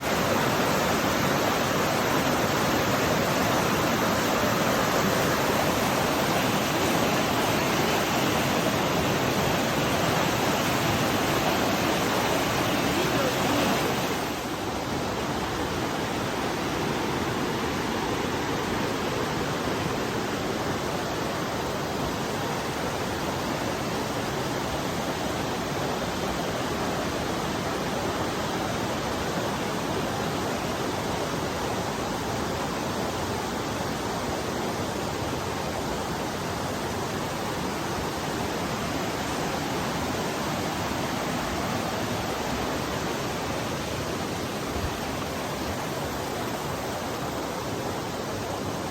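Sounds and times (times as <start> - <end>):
rushing river water: 0.0 - 48.9.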